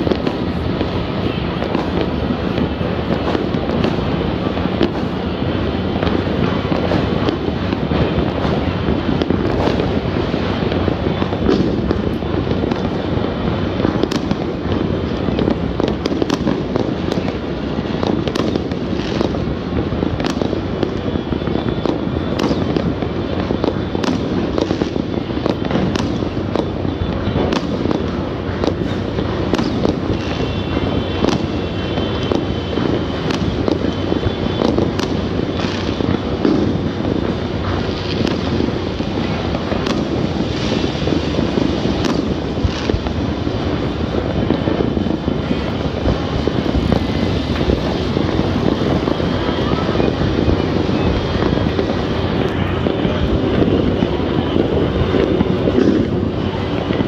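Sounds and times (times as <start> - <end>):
distant fireworks rumbling bangs: 0.0 - 57.0
firecracker cracks and pops: 0.0 - 57.0.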